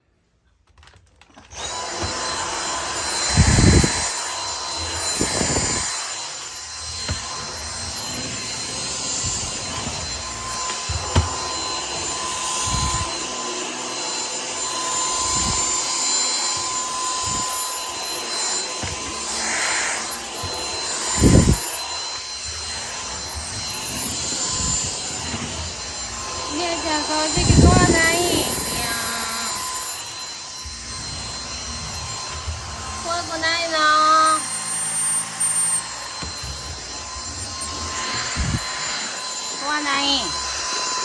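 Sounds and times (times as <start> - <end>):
vacuum cleaner running: 0.8 - 41.0.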